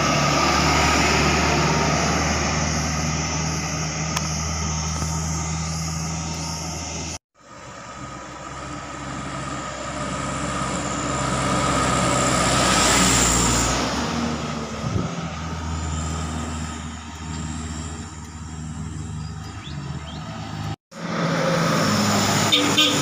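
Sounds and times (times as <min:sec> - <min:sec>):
truck diesel engine passing: 0:00.0 - 0:23.0.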